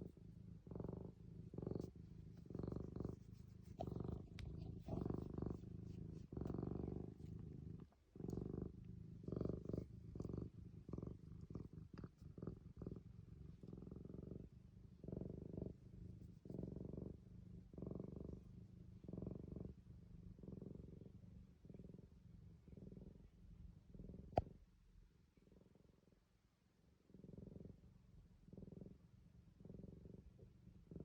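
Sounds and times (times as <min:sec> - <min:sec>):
cat purring: 0:00.0 - 0:31.0.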